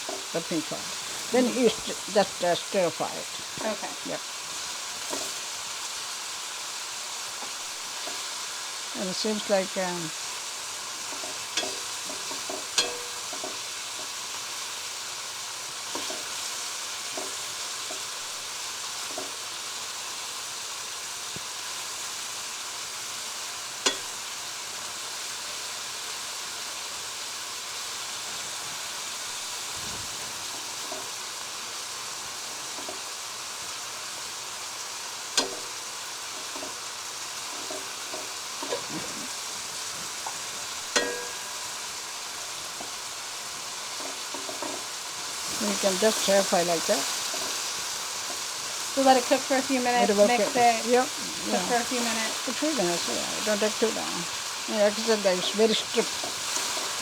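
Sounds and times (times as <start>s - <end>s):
chicken sizzling in oil: 0.0s - 57.0s.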